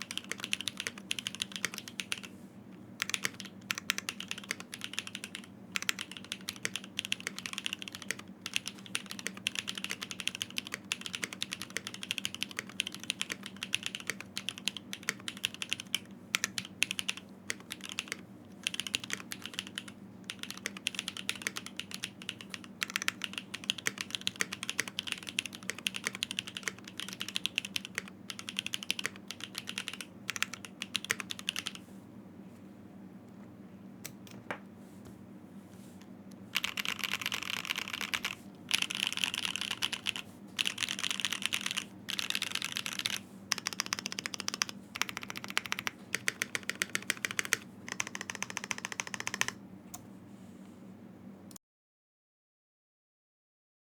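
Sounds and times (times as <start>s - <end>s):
fast mechanical keyboard typing: 0.0s - 2.3s, 3.0s - 31.8s, 36.5s - 49.6s.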